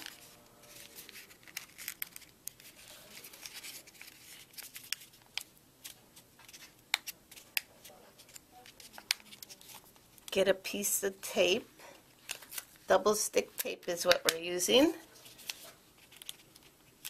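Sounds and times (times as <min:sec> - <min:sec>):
paper crackling and crinkling: 0:00.0 - 0:10.4, 0:12.1 - 0:17.0.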